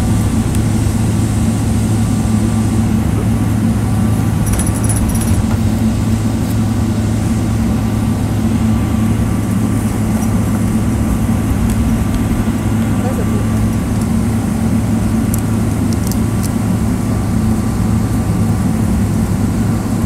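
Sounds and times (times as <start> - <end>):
jet engines droning in cabin: 0.0 - 20.0.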